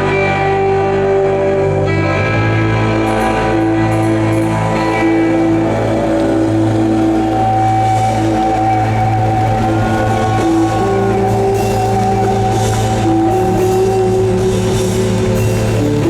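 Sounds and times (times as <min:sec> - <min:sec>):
bass and drums: 0:00.0 - 0:16.0
sustained electric guitar notes: 0:00.0 - 0:16.0.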